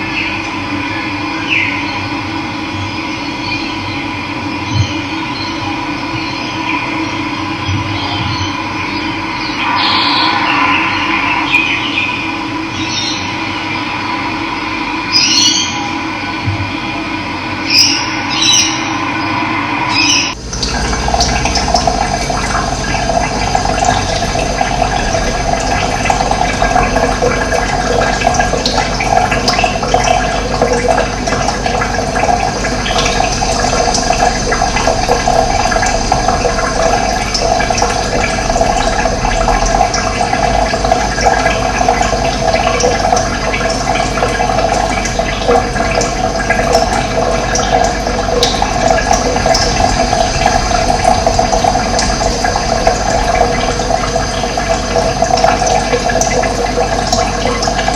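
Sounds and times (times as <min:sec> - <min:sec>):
running water rushing: 0:06.6 - 0:16.4, 0:17.6 - 0:57.9.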